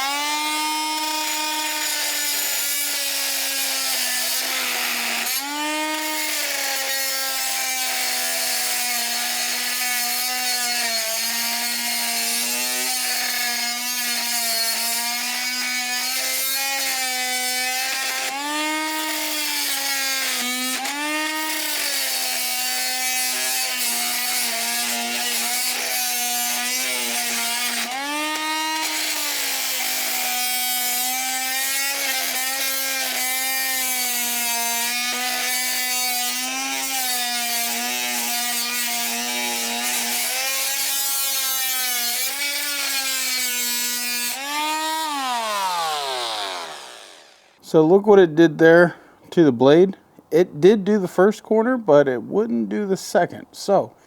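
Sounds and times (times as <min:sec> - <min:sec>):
multi-tool cutting steel: 0:00.0 - 0:48.2.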